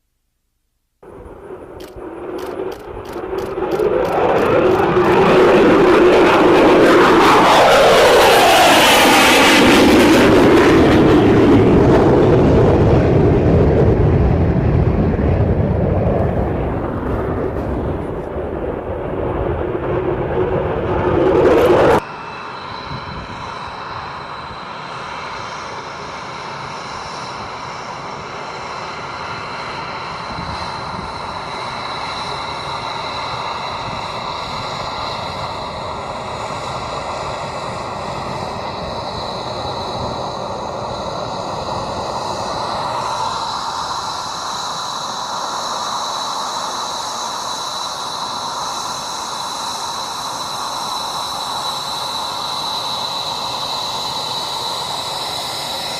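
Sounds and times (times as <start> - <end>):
jet engine whine with high tones: 1.0 - 55.9
loud jet engine noise: 1.0 - 55.9.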